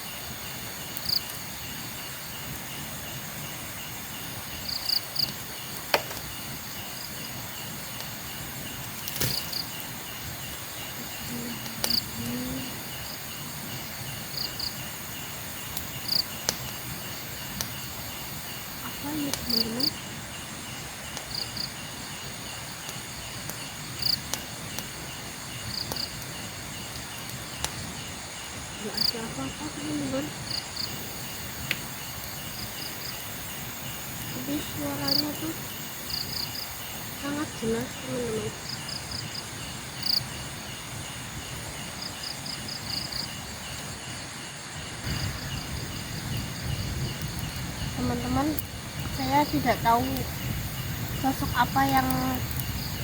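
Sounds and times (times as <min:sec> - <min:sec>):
night insects chirping: 0:00.0 - 0:53.0.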